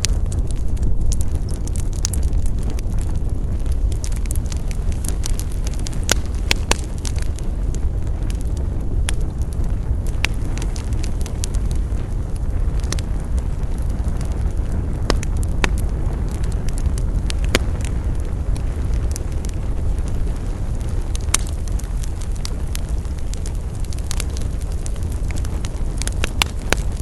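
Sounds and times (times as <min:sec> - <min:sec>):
campfire burning: 0:00.0 - 0:27.0
fire crackles and pops: 0:00.0 - 0:27.0.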